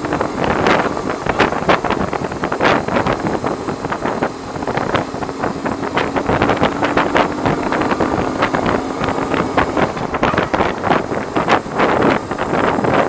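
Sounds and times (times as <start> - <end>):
motorcycle engine hum: 0.0 - 13.0
wind buffeting microphone: 0.0 - 13.0.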